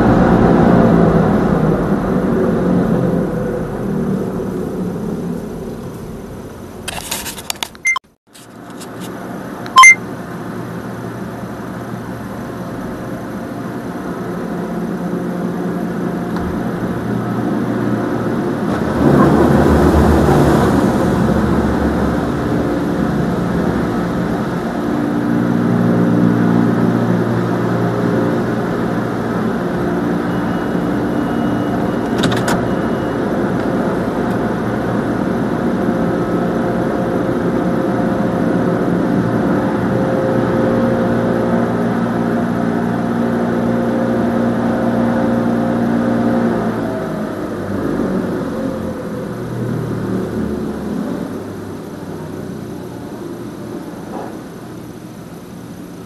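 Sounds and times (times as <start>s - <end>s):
car wash machine hum: 0.0s - 6.9s, 8.8s - 56.0s.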